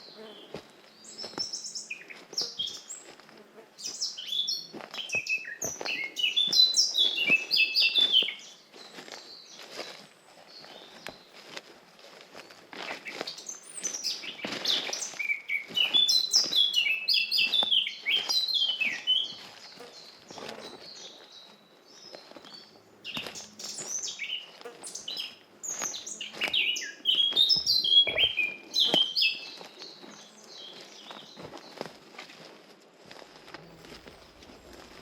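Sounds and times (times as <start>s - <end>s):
songbirds chirping and trilling: 0.0s - 32.3s, 33.0s - 35.0s.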